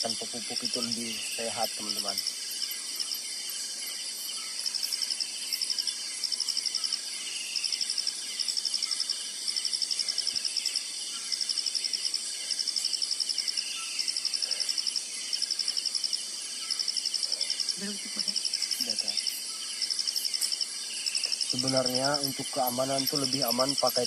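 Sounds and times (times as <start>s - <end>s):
cricket-like pulsed trill: 0.0s - 24.0s
faint insect chirps: 0.0s - 24.0s
steady high insect buzz: 0.0s - 24.0s.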